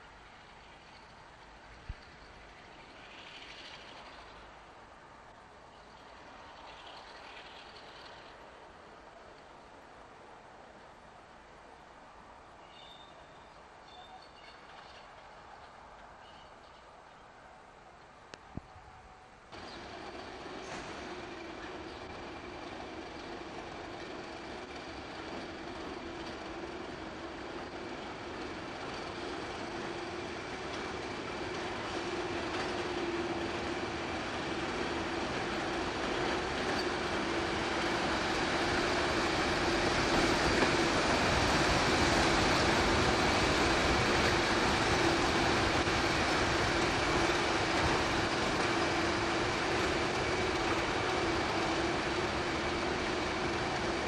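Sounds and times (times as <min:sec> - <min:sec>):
train rumbling past: 0:00.0 - 0:10.9, 0:12.6 - 0:18.0, 0:18.6 - 0:54.0.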